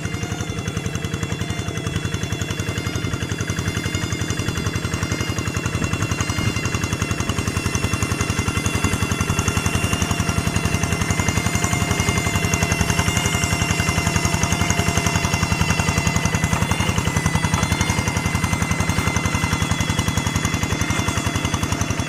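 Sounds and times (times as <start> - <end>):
hand tractor diesel engine chugging: 0.0 - 22.0.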